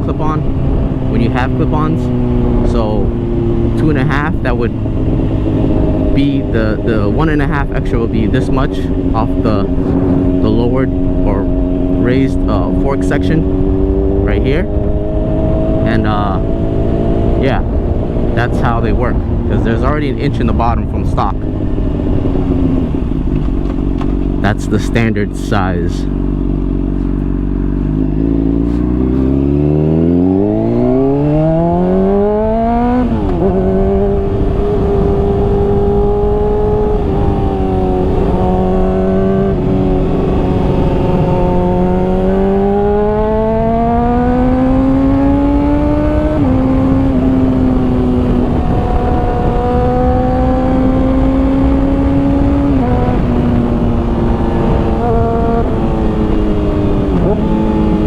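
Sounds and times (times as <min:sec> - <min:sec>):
wind rush: 0:00.0 - 0:24.7, 0:26.8 - 0:58.0
motorcycle engine accelerating: 0:00.0 - 0:58.0.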